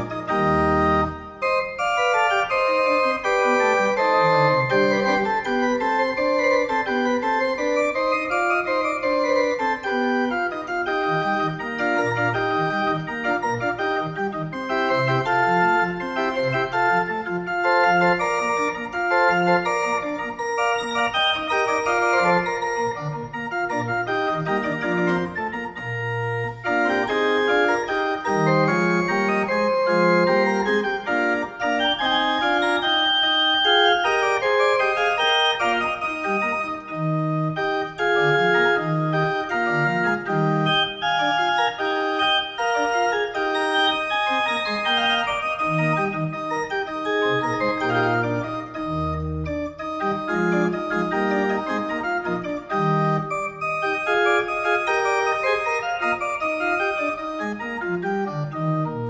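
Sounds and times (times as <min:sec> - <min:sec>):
pipe organ playing slow piece: 0:00.0 - 0:59.0.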